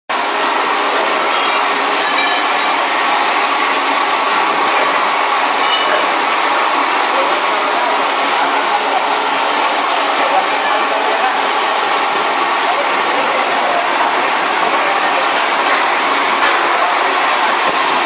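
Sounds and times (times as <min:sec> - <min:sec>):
cutting machine running: 0:00.1 - 0:18.0.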